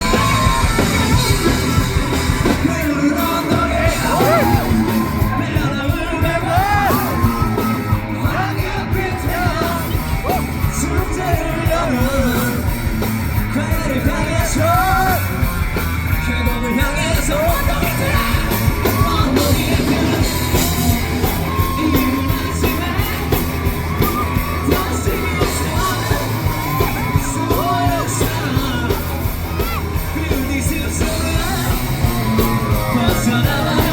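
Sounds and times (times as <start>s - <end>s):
person singing and shouting: 0.0s - 33.9s
rock band playing live: 0.0s - 33.9s.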